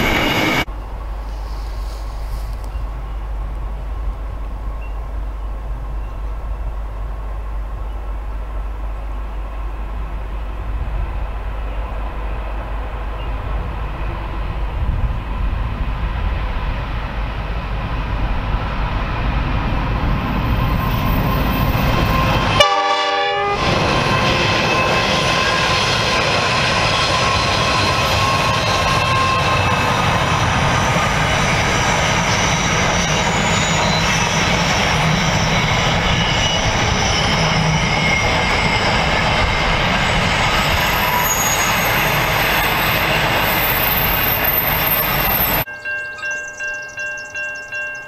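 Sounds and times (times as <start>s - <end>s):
diesel locomotive engine rumble: 0.0s - 48.0s.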